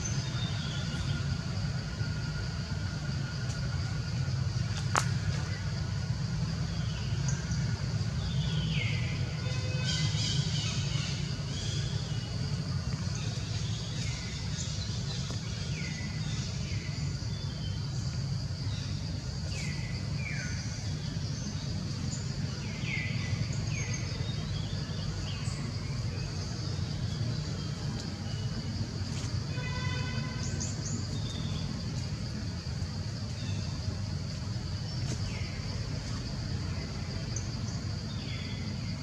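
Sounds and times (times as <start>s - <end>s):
low steady rumble: 0.0s - 39.0s.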